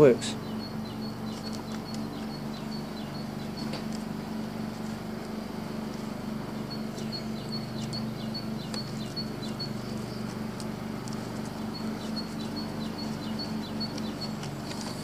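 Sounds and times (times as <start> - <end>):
bird chirping: 0.0 - 4.9, 5.9 - 15.0
low pulsing hum: 0.0 - 15.0.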